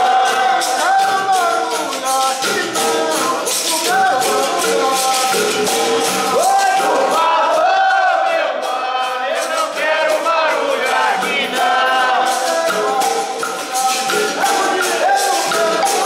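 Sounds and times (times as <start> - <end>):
berimbau playing: 0.0 - 16.0
people singing: 0.0 - 16.0
shaker and jingle percussion: 0.0 - 16.0.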